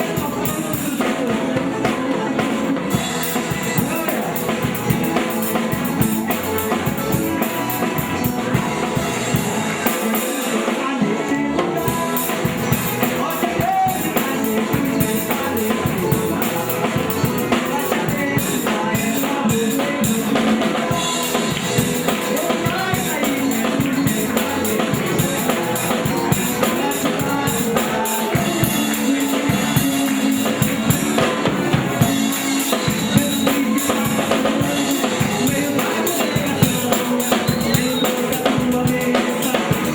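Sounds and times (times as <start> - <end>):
drum kit beat: 0.0 - 11.0, 11.6 - 39.9
live band playing: 0.0 - 39.9.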